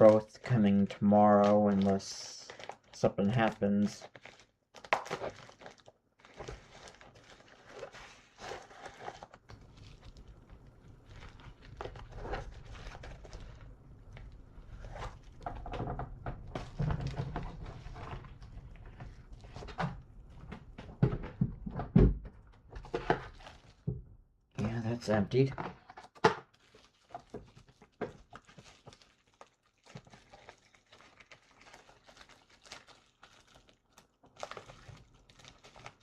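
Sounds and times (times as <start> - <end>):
package rustling and scraping: 1.4 - 23.9, 25.6 - 33.7.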